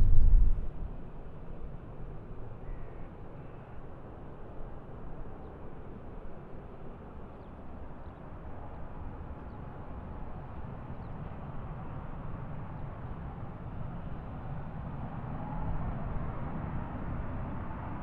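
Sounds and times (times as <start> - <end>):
low rumble of airport ambience: 0.0 - 18.0.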